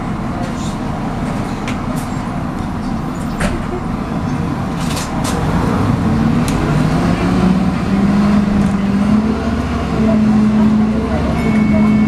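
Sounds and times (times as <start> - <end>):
bus diesel engine and road rumble: 0.0 - 12.0.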